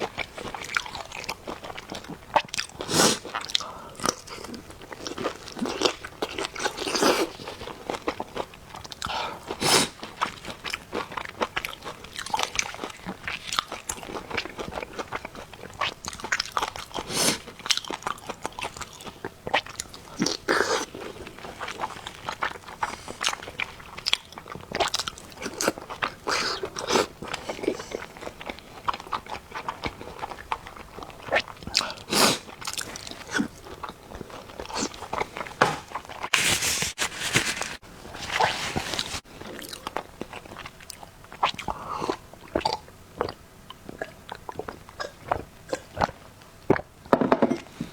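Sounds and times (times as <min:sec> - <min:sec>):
person chewing and biting food: 0:00.1 - 0:46.8.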